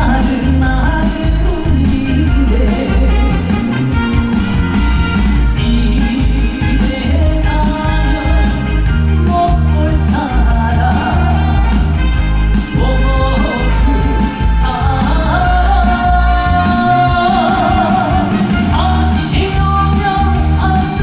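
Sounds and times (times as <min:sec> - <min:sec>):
man singing: 0:00.0 - 0:04.4, 0:05.6 - 0:21.0
backing track with heavy bass: 0:00.0 - 0:21.0.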